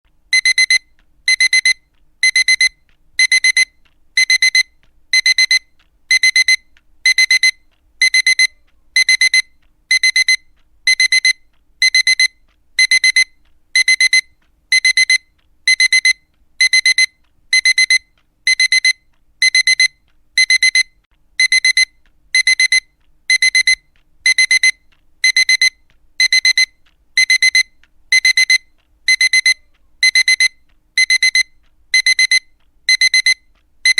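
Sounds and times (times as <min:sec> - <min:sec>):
alarm clock beeping: 0:00.3 - 0:33.9.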